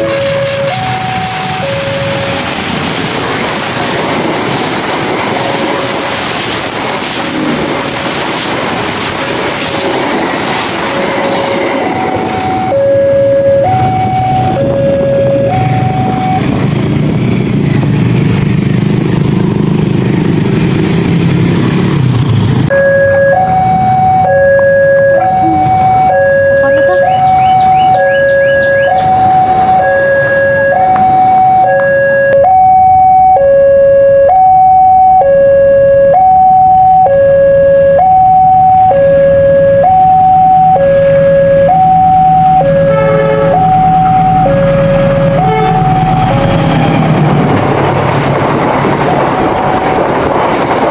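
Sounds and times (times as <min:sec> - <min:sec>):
two-tone crossing warning signal: 0:00.0 - 0:09.2, 0:10.5 - 0:17.5, 0:22.7 - 0:48.3
train engine hum: 0:00.0 - 0:33.0, 0:37.9 - 0:50.9
train rolling noise: 0:00.0 - 0:33.5, 0:37.8 - 0:50.9.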